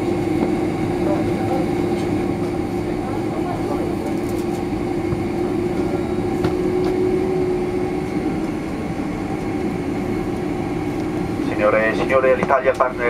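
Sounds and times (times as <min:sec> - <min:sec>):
aircraft cabin rumble: 0:00.0 - 0:13.0
engine and cabin air hum: 0:00.0 - 0:13.0.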